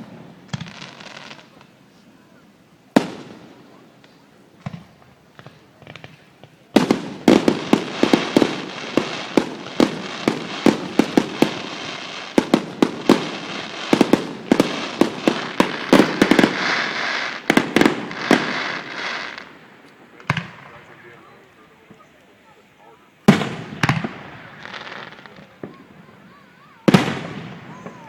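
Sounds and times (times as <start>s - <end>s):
fireworks bangs: 0.0s - 1.7s, 2.9s - 28.0s
crackling hiss of fireworks: 0.0s - 28.0s.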